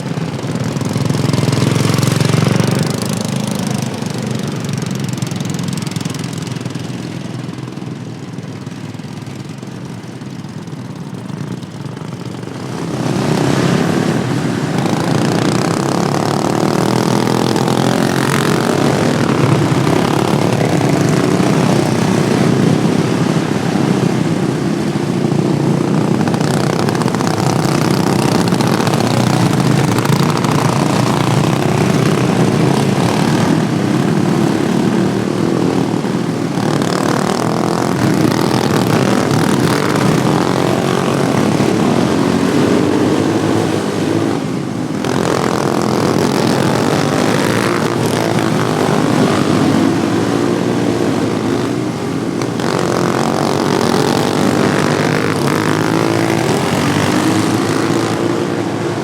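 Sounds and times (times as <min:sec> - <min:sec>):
racing lawnmower engines: 0:00.0 - 0:59.0.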